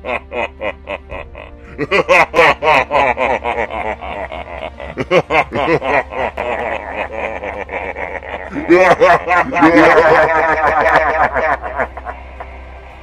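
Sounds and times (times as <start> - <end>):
villain cackling laughter: 0.0 - 12.7.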